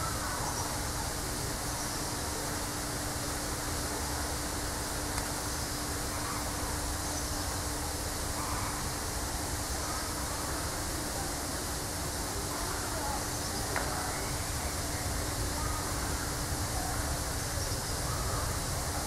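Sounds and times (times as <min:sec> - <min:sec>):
constant low hum: 0:00.0 - 0:19.0
steady background hiss: 0:00.0 - 0:19.0.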